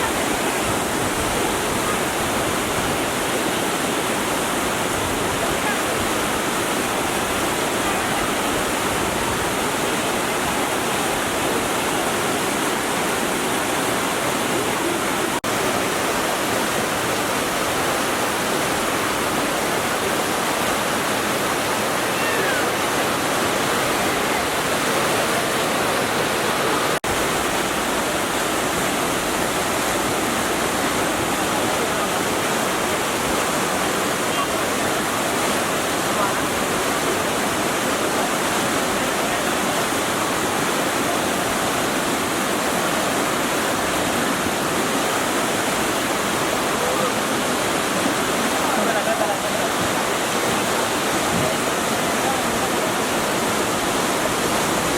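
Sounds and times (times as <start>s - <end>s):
floodwater rushing: 0.0s - 54.9s.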